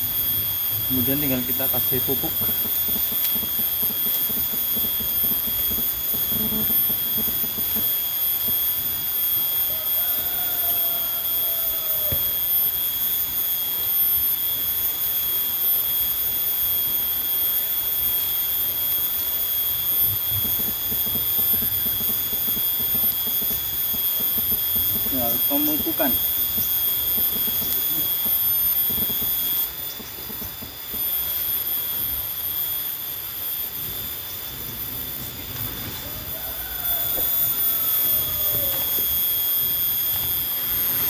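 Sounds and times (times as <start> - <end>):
high-pitched insect drone: 0.0 - 41.0.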